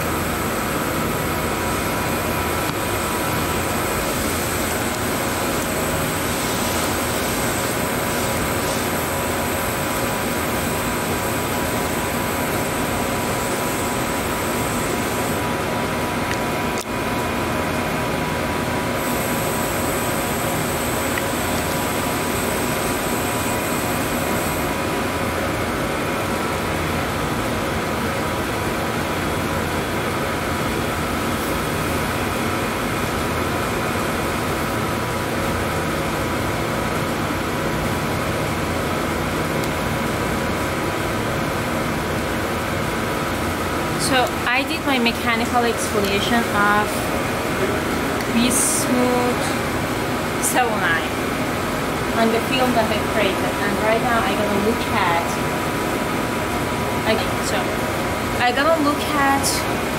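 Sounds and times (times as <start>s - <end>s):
air handling hum and hiss: 0.0s - 59.9s.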